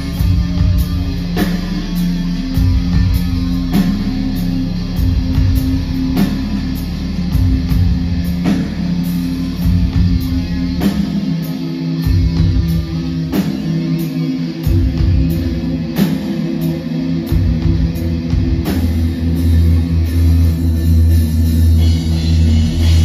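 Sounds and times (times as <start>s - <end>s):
heavy sustained bass notes: 0.0s - 23.0s
live electro-industrial music: 0.0s - 23.0s.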